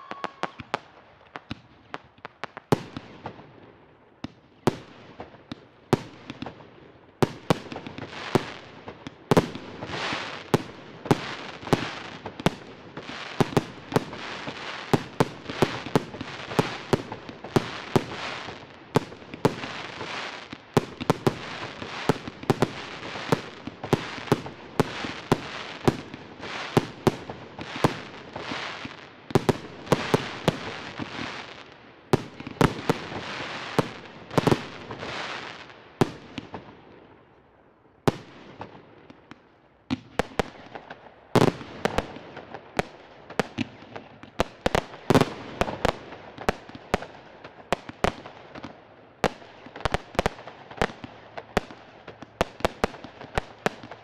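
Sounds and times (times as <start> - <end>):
fireworks bursting with sharp bangs: 0.0 - 37.3, 38.0 - 54.0.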